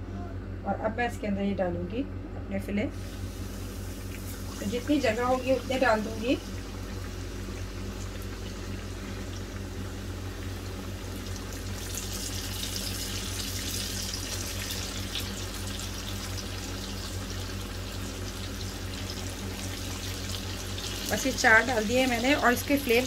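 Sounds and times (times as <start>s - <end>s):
oil sizzling while deep-frying: 3.0s - 23.0s.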